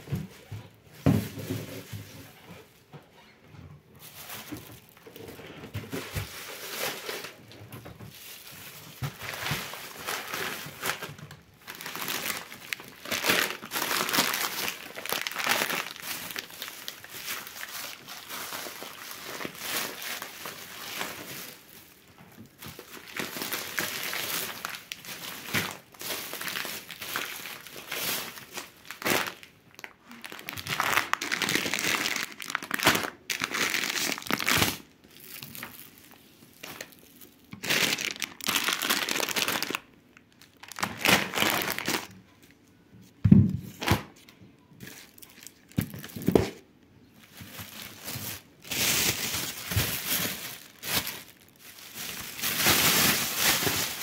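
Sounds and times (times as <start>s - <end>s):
plastic bags crinkling: 3.9s - 42.5s, 44.8s - 54.0s.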